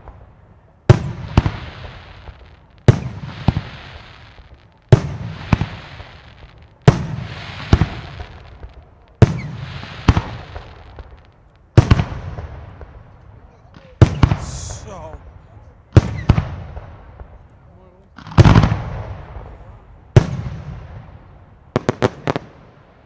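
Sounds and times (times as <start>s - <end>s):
smaller firework crack: 0.0s - 23.0s.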